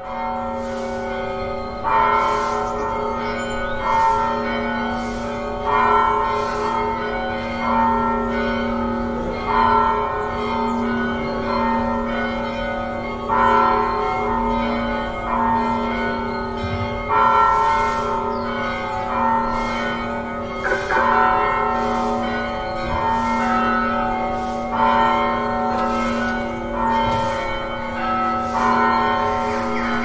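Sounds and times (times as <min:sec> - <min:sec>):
church bells tolling: 0:00.0 - 0:30.0.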